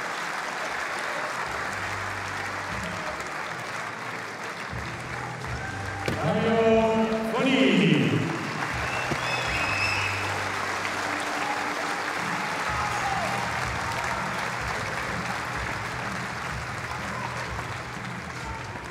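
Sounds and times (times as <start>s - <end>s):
large crowd applauding: 0.0s - 18.9s
faint music: 0.1s - 18.9s.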